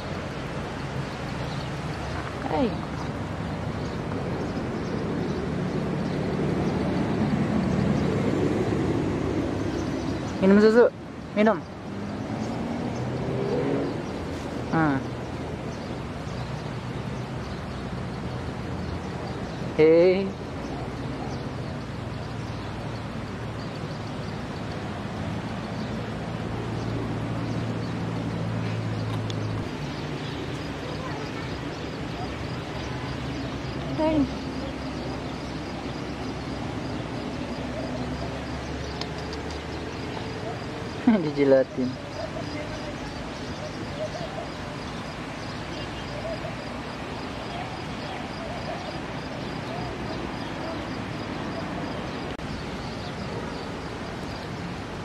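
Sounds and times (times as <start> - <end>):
faint outdoor hiss: 0.0 - 55.0.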